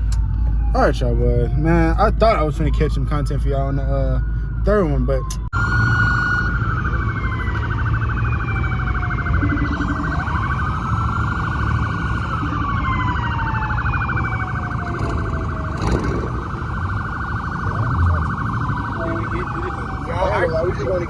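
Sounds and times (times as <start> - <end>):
wailing police siren: 0.0 - 21.0
rapidly pulsing siren: 0.2 - 21.0.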